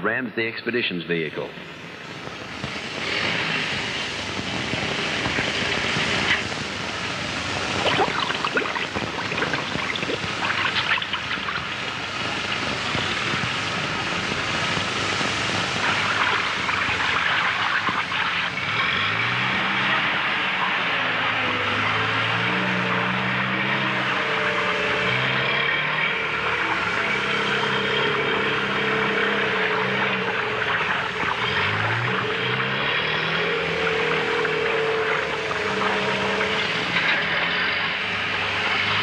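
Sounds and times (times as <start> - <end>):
vehicle engine running: 1.5 - 39.0
river water rushing: 1.7 - 39.0
sharp splashes or knocks: 2.3 - 39.0.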